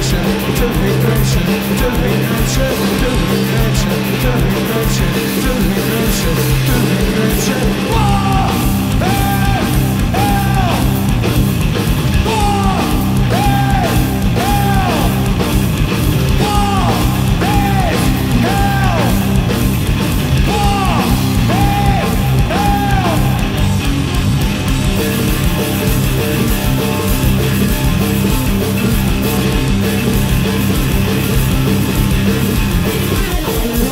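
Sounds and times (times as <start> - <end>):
drums and cymbals: 0.0 - 33.9
electric guitar riff: 0.0 - 33.9.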